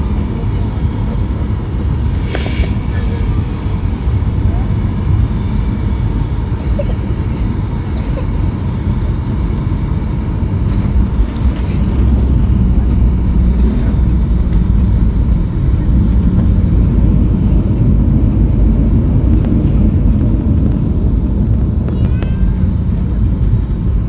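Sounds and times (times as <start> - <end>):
airliner rumbling down runway: 0.0 - 24.0.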